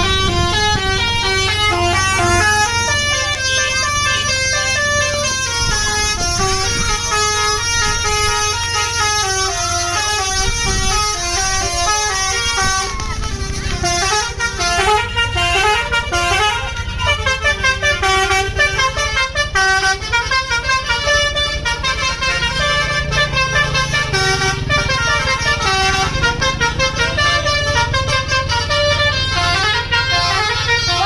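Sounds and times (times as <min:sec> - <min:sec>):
bus engine running: 0:00.0 - 0:31.0
musical bus horn melody: 0:00.0 - 0:31.0.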